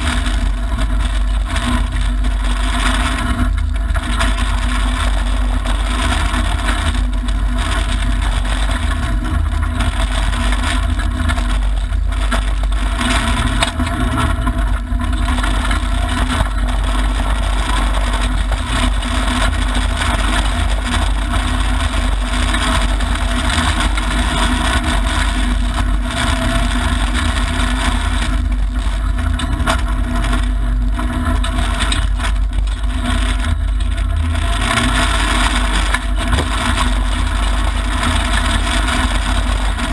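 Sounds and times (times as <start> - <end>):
car engine under load: 0.0 - 39.9
tyres and gravel rumble: 0.0 - 39.9.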